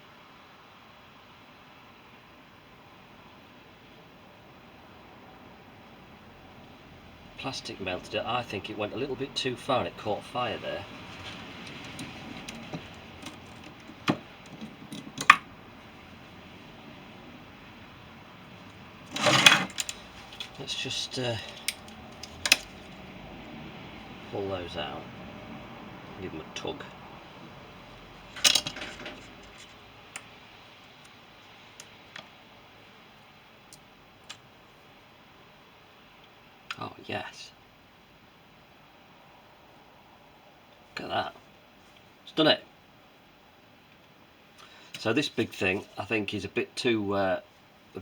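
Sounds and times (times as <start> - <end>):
faint steady hiss: 0.0 - 48.0.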